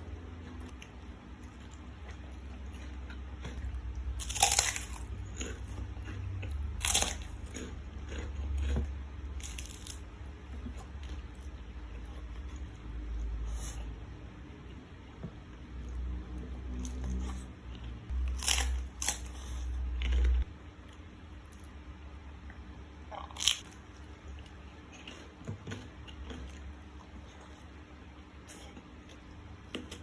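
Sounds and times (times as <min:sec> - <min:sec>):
crunching and chewing: 0:00.0 - 0:13.9, 0:14.7 - 0:21.8, 0:22.4 - 0:30.0.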